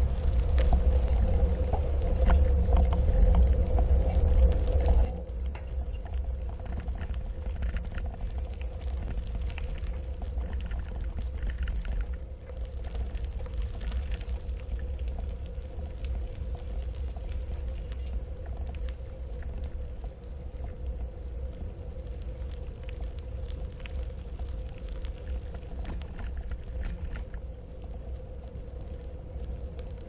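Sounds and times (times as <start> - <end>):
small rattles and crunches: 0.0 - 21.6, 22.2 - 29.0
steady hum: 0.0 - 30.0
wind: 0.0 - 30.0.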